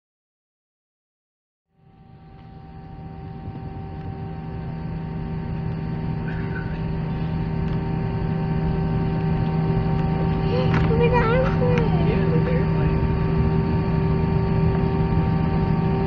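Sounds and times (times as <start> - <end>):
airplane turbofan engines humming: 1.7 - 16.0
low rumble of taxiing: 1.8 - 16.0.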